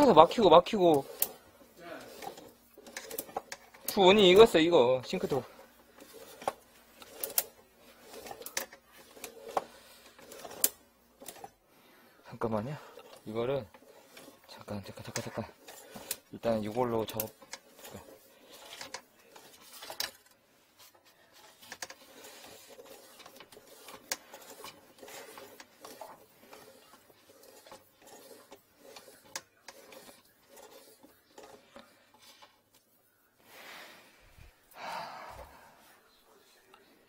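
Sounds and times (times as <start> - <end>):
cable rubbing and scraping: 0.0 - 11.6, 12.2 - 34.6.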